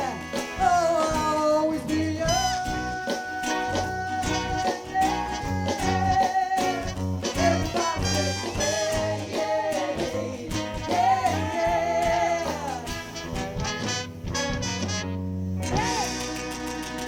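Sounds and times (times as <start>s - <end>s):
bass: 0.0s - 17.0s
drums: 0.0s - 17.0s
guitar: 0.0s - 17.0s
horn section: 0.0s - 17.0s
keyboard: 0.0s - 17.0s.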